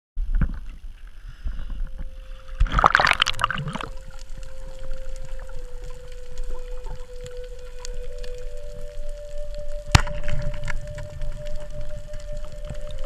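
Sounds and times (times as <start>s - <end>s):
faint underwater clicks: 0.3s - 13.0s
underwater hum: 0.5s - 13.0s
water splashing: 1.9s - 13.0s.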